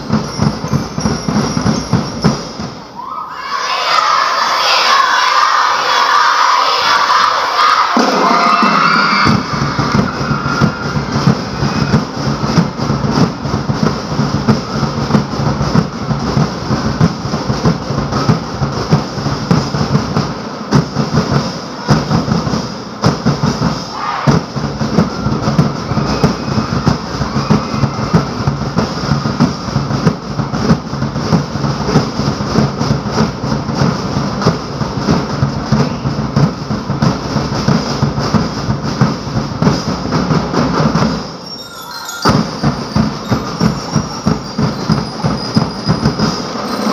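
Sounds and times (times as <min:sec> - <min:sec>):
drums playing driving beat: 0:00.0 - 0:03.0, 0:07.9 - 0:46.9.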